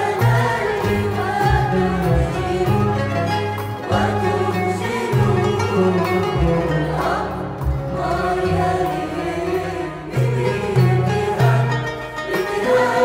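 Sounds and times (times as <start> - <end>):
choir singing: 0.0 - 13.0
string orchestra: 0.0 - 13.0.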